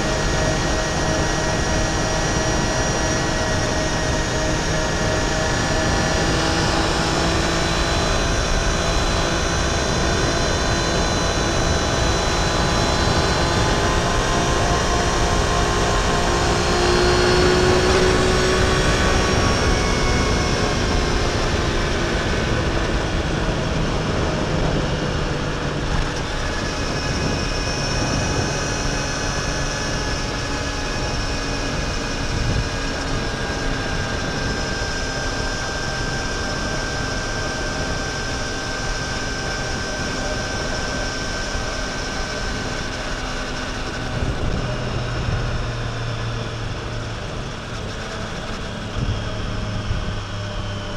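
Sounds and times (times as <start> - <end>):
motorcycle engine cruising: 0.0 - 50.9
wind and road noise: 0.0 - 50.9.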